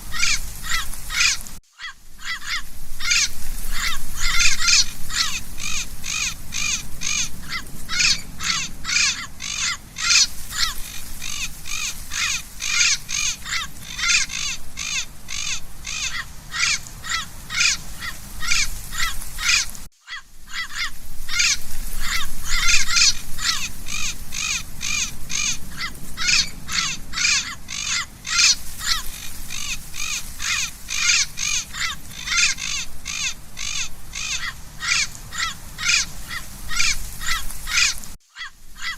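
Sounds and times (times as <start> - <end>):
parrot squawking: 0.1 - 38.9.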